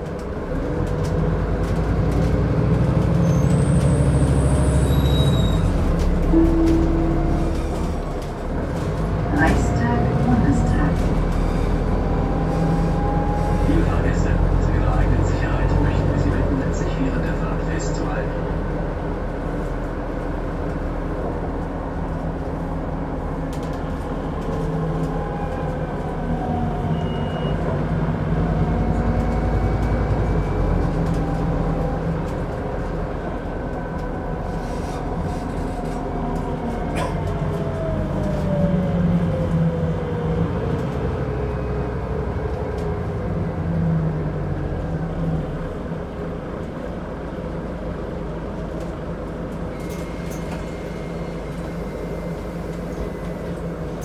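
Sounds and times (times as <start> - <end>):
bus engine hum: 0.0 - 54.0.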